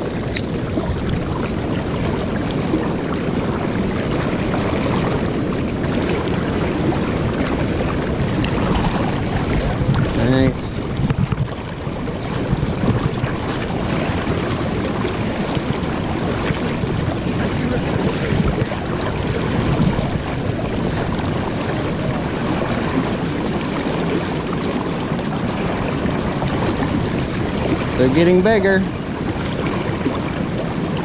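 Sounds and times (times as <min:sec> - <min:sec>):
wind noise on microphone: 0:00.0 - 0:28.0
river water rushing: 0:00.0 - 0:31.0.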